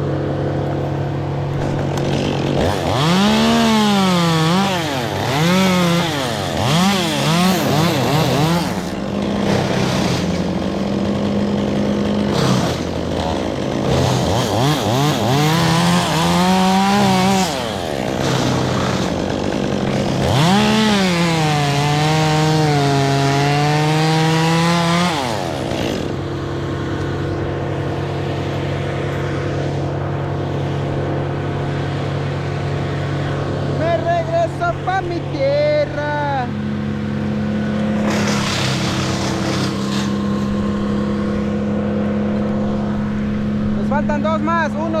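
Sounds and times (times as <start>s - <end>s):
chainsaw revving and cutting: 0.0s - 45.0s.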